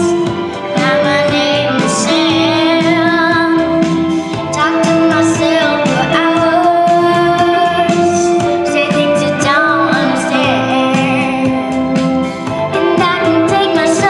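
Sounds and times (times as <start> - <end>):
girl singing into microphone: 0.0 - 11.8, 12.5 - 14.0.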